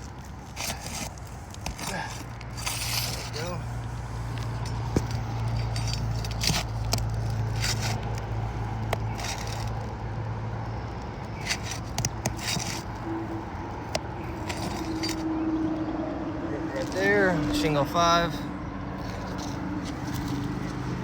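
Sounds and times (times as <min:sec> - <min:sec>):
roof shingles scraping and crackling: 0:00.0 - 0:15.4, 0:19.0 - 0:21.0.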